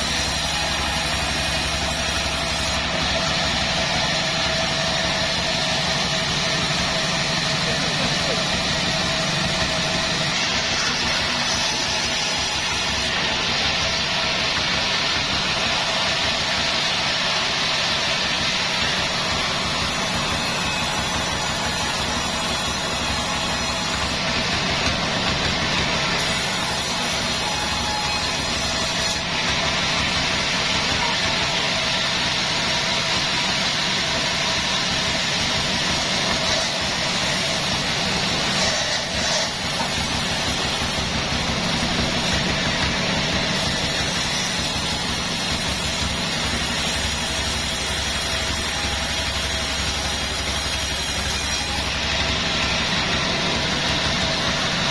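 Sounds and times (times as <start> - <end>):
sawmill saw droning: 0.0 - 54.9.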